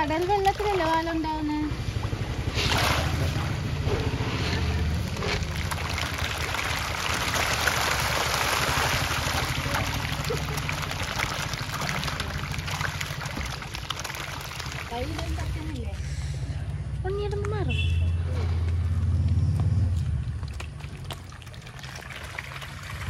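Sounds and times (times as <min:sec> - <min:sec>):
fish splashing at water surface: 0:00.0 - 0:16.6, 0:19.9 - 0:23.0.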